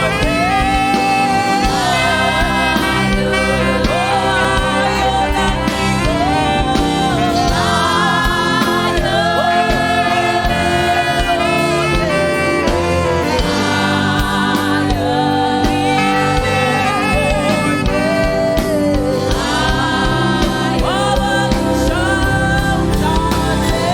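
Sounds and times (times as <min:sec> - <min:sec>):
band with steady beat: 0:00.0 - 0:23.9
voices singing with vibrato: 0:00.0 - 0:23.9.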